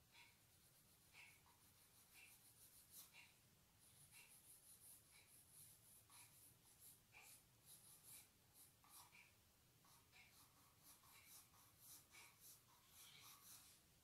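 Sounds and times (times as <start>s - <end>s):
pencil scratching on paper: 0.2s - 14.0s.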